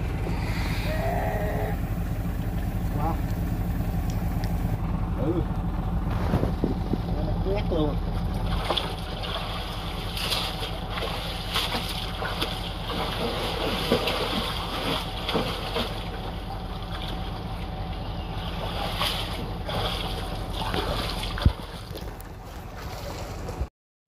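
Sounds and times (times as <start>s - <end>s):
low engine hum: 0.0s - 23.7s
water splashing and sloshing: 0.0s - 23.7s.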